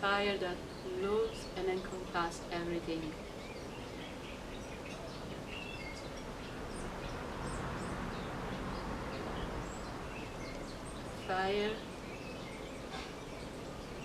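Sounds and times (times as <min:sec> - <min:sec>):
background hiss: 0:00.0 - 0:14.0
small birds chirping: 0:00.0 - 0:14.0.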